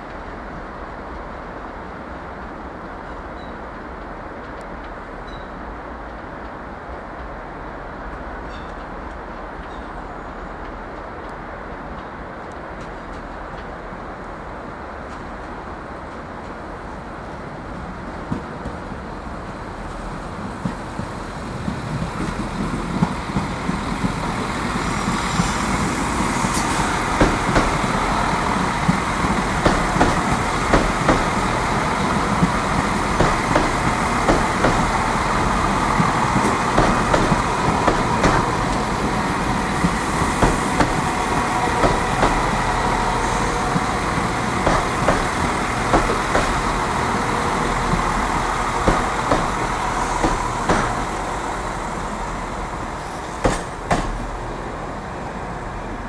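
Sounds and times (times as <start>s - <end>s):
diesel train rolling past: 0.0s - 56.0s.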